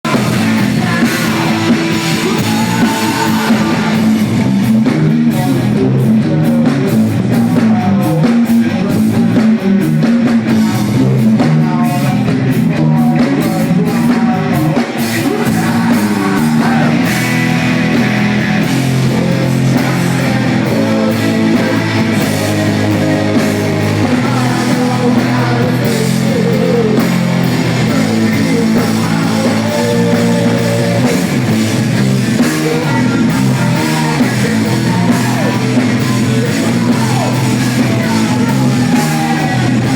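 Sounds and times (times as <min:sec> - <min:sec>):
distorted electric guitars: 0:00.0 - 0:39.9
pounding drum kit: 0:00.0 - 0:39.9.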